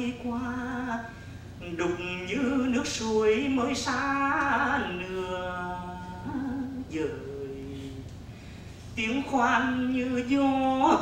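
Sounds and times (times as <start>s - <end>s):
man singing with vibrato: 0.0s - 8.1s, 9.0s - 11.0s.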